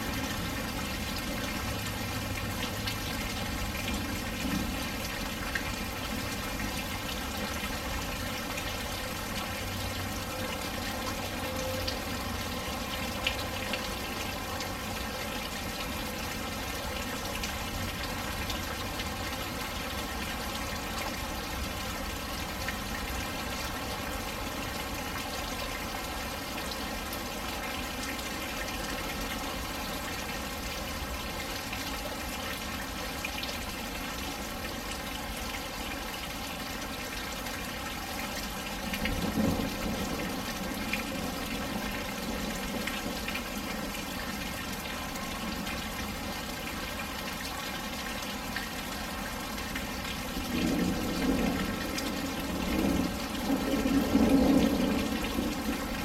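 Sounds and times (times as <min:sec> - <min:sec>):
rain pouring: 0:00.0 - 0:56.0
water running and splashing: 0:00.0 - 0:56.0.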